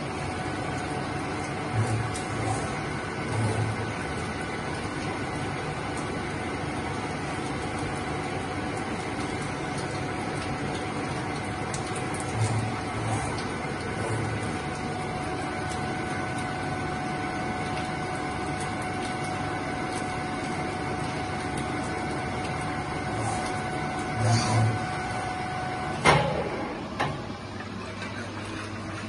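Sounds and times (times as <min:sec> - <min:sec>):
milling machine whining: 0:00.0 - 0:29.0.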